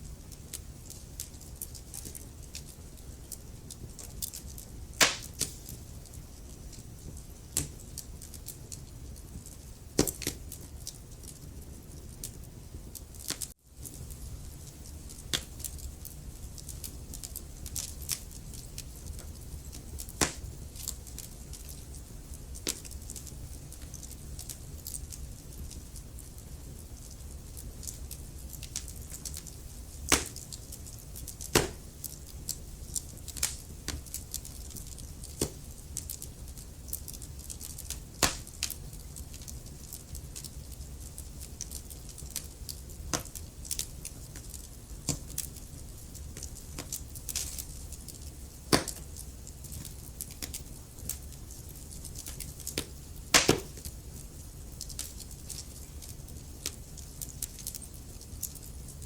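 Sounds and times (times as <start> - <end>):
burning logs popping: 0.0 - 59.0
low rumble of flames: 0.0 - 59.0.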